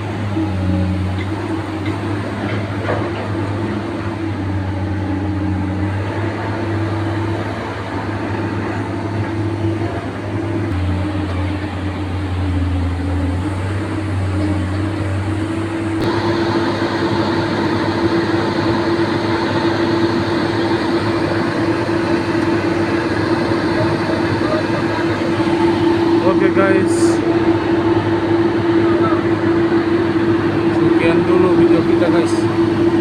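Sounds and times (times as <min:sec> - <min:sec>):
excavator diesel engine droning: 0:00.0 - 0:33.0.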